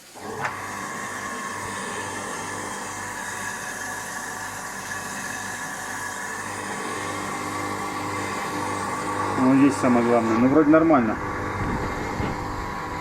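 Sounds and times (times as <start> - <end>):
food waste disposer motor humming: 0.0 - 13.0.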